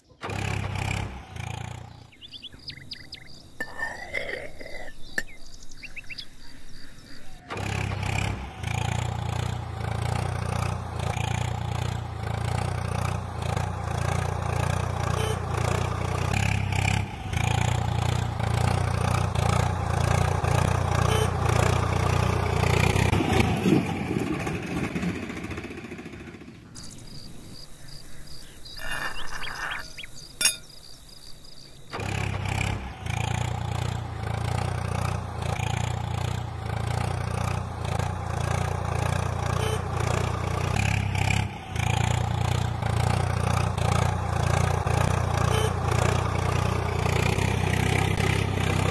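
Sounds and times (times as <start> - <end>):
small engine puttering: 0.0 - 48.9.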